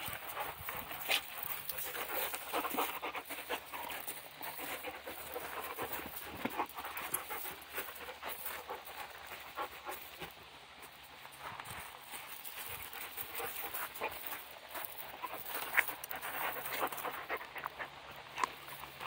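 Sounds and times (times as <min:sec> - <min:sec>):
dog panting: 0:00.0 - 0:10.5, 0:12.4 - 0:19.0.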